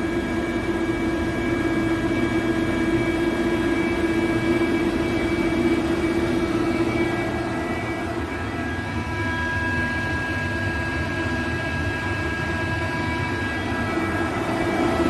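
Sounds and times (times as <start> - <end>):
screw compressor humming and whining: 0.0 - 15.0.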